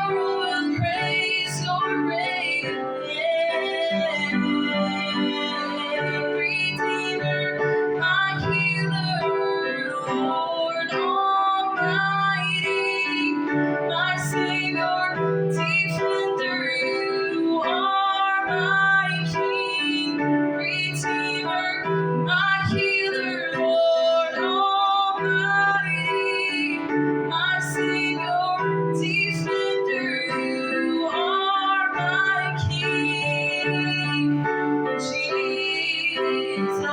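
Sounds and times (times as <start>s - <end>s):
piano accompaniment: 0.0s - 36.9s
woman singing: 0.0s - 36.9s.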